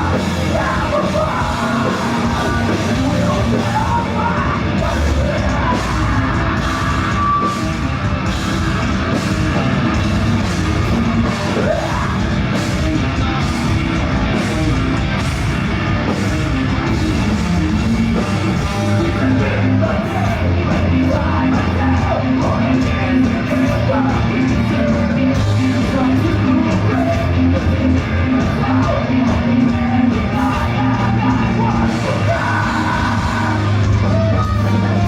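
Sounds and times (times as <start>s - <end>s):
heavy rock band playing: 0.0s - 35.0s.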